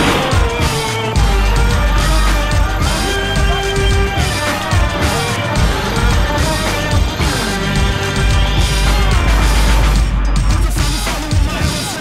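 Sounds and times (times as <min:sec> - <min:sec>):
drum beat: 0:00.0 - 0:12.0.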